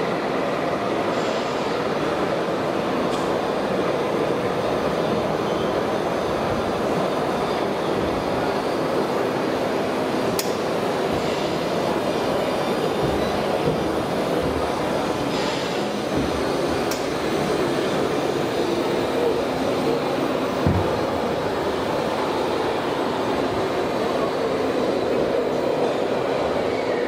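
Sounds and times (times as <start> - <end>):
rumbling din of busy hall: 0.0 - 27.0.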